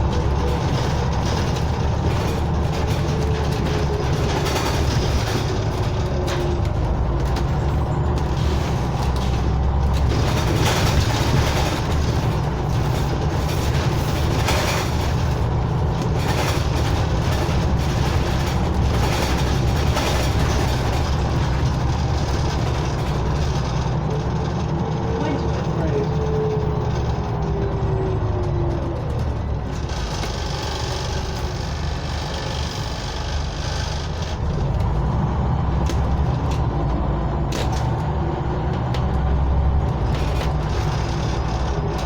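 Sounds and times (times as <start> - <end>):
bus engine and road rumble: 0.0 - 42.0
knocks and rattles: 0.0 - 42.0.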